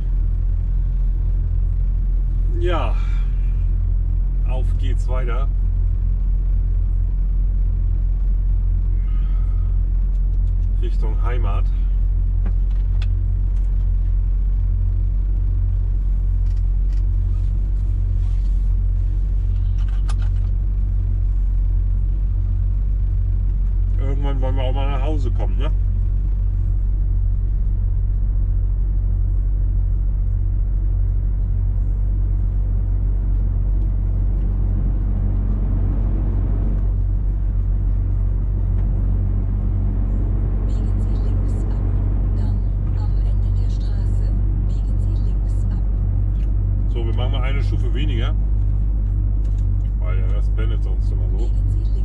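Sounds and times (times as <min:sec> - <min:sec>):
diesel engine low rumble: 0:00.0 - 0:52.0.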